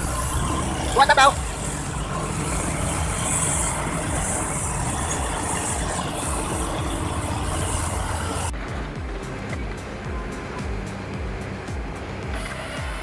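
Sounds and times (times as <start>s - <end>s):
engine hiss: 0.0s - 13.0s
truck engine rumbling under load: 0.0s - 13.0s.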